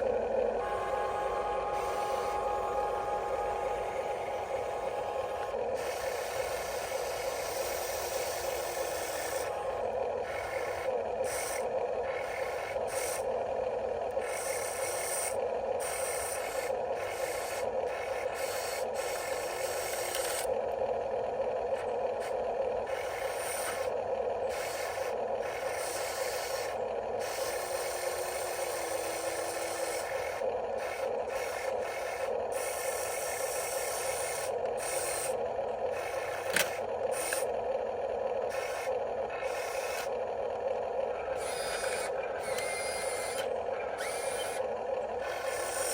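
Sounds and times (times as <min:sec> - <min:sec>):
small electric motors whining: 0:00.0 - 0:45.9.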